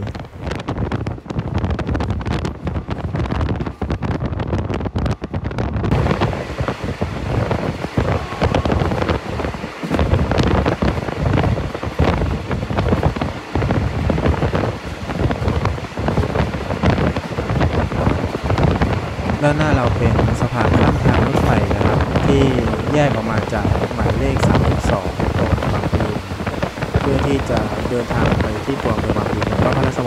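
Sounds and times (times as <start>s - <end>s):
train running rumble: 0.0s - 30.0s
wind buffeting microphone: 0.0s - 30.0s.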